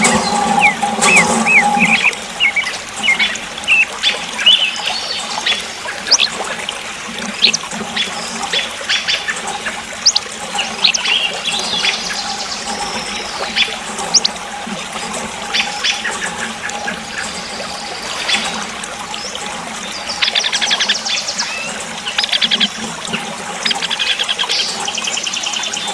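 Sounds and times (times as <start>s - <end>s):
water trickling and splashing: 0.0s - 25.9s.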